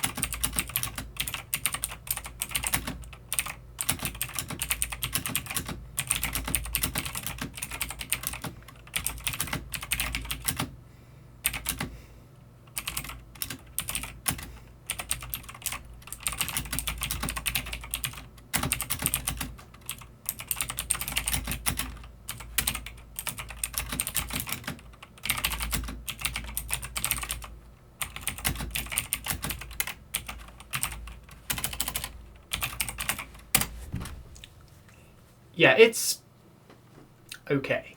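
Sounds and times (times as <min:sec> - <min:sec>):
clicky mechanical keyboard typing: 0:00.0 - 0:10.8, 0:11.5 - 0:11.9, 0:12.7 - 0:33.7.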